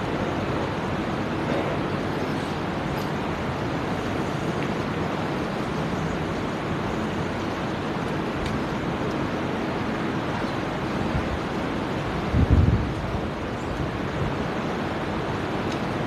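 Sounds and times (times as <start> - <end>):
electric fans rushing: 0.0 - 16.0.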